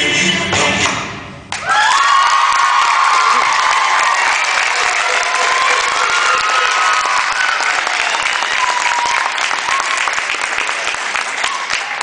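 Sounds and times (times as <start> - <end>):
audience clapping: 1.5 - 12.0
people cheering: 1.5 - 12.0.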